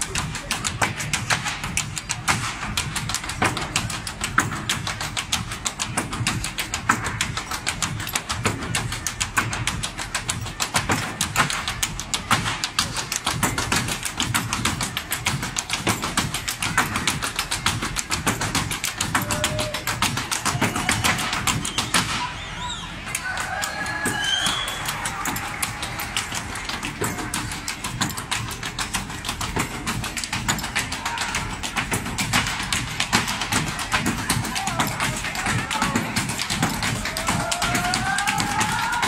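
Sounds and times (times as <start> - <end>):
hard-soled shoes tapping and stamping: 0.0 - 22.2, 23.0 - 39.0.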